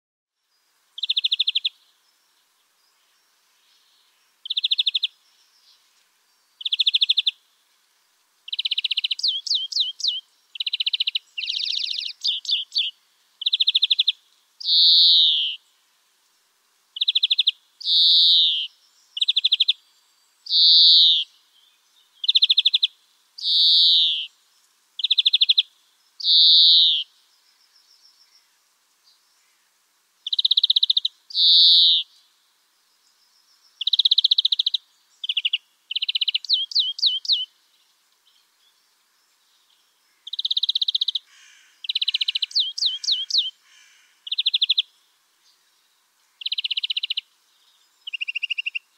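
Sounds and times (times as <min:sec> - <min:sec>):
songbird singing trills: 0:00.5 - 0:07.5, 0:08.4 - 0:15.8, 0:17.0 - 0:29.5, 0:30.2 - 0:48.9.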